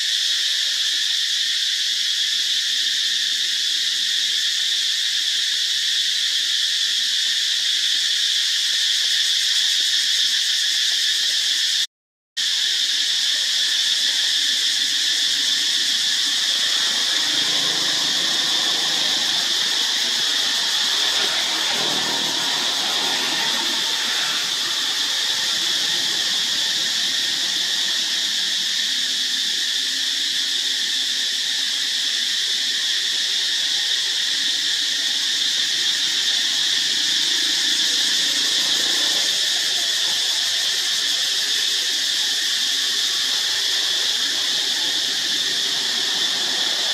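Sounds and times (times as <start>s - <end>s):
insect chorus drone: 0.0s - 46.9s.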